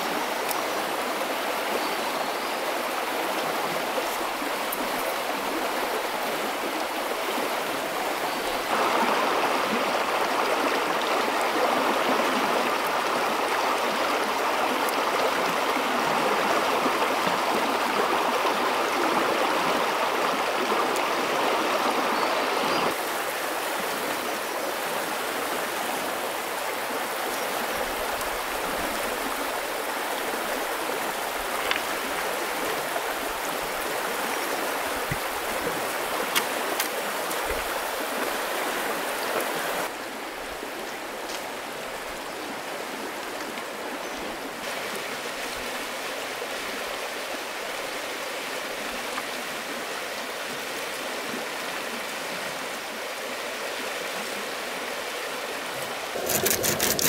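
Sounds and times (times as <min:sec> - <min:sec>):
rocky stream flowing: 0:00.0 - 0:57.0.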